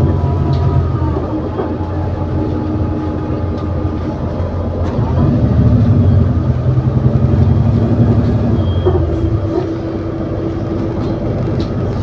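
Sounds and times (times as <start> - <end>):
bus diesel engine under load: 0.0 - 12.0.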